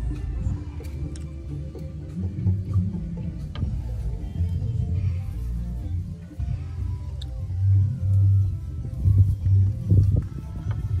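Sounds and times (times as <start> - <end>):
music with pulsing bass: 0.0 - 11.0.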